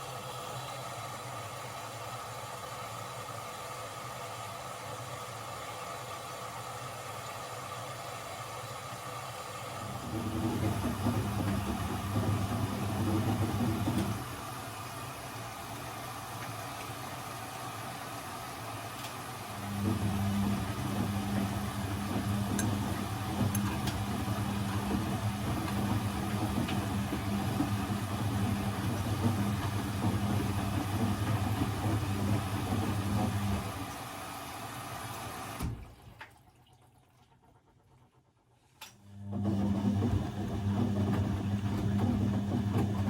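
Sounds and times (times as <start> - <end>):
washing machine motor hum: 0.0 - 43.0.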